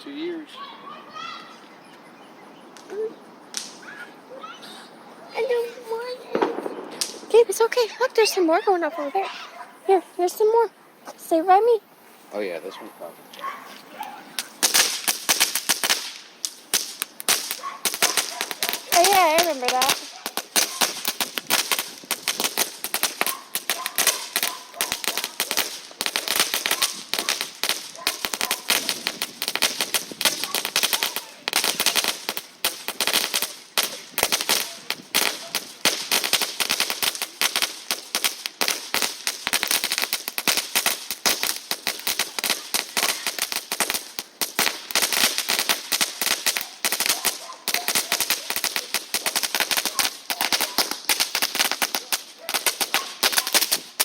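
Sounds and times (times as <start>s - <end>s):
fireworks crackling: 2.6s - 54.0s.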